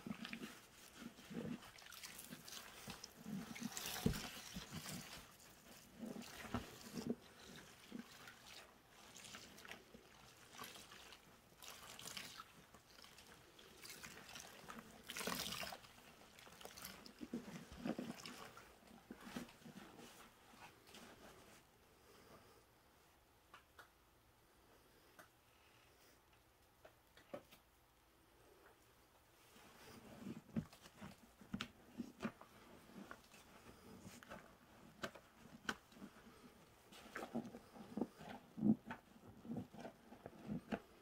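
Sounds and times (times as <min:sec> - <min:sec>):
wet sponges squelching: 0:00.0 - 0:21.7, 0:29.4 - 0:41.0.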